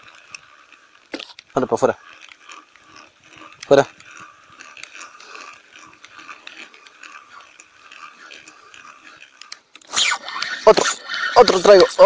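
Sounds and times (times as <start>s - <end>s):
fishing reel whirring and clicking: 0.0s - 12.0s.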